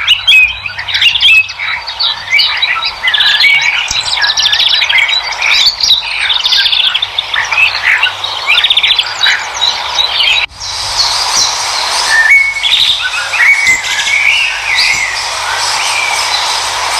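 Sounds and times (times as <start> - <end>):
birds chirping and trilling: 0.0 - 16.9
background hiss: 1.5 - 16.9.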